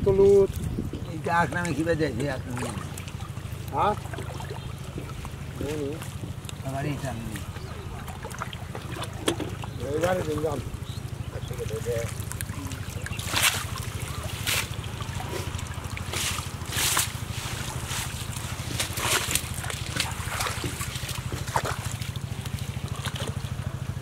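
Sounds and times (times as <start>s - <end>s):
steady low rumble: 0.0s - 24.0s
water splashing: 0.1s - 24.0s.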